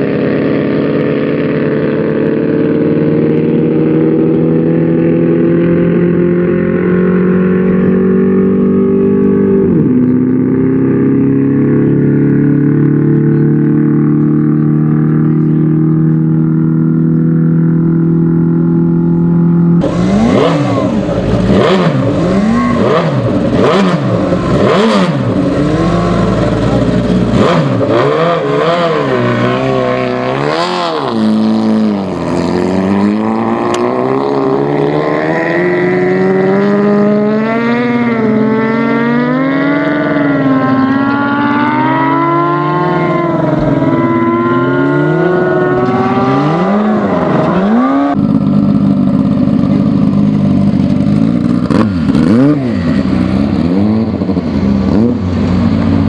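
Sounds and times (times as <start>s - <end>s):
motorcycle engine revving: 0.0s - 56.0s
steady engine drone: 0.0s - 56.0s.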